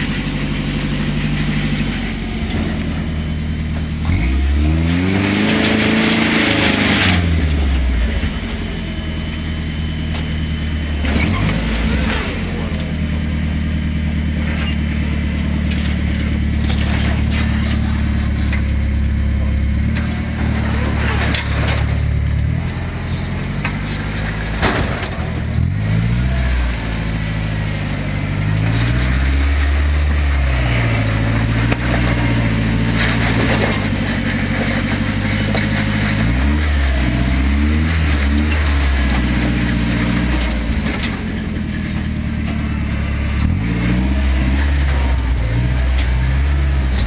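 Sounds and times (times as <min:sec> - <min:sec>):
engine running and revving: 0:00.0 - 0:47.0.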